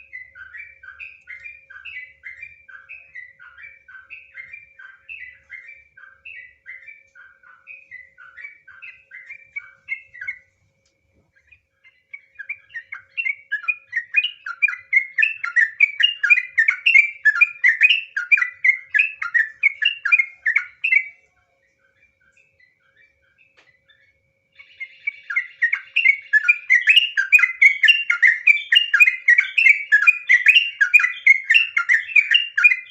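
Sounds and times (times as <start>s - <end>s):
bulbul singing chirping notes: 0.0s - 10.6s, 11.4s - 32.9s.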